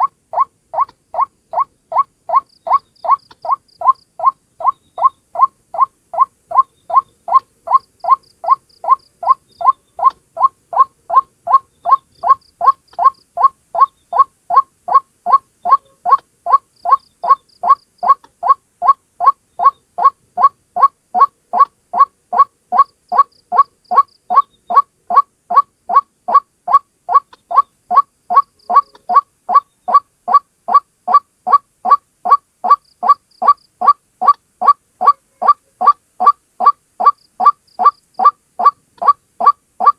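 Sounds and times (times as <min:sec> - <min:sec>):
waterhen calling: 0:00.0 - 0:39.9.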